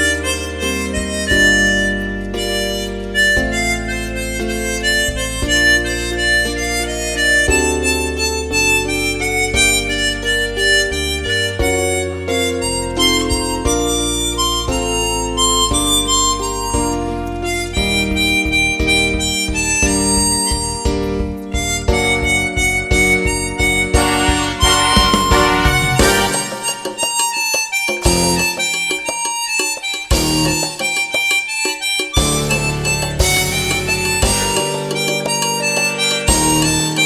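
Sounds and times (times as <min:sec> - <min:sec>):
harmonica playing slow melody: 0:00.0 - 0:37.0.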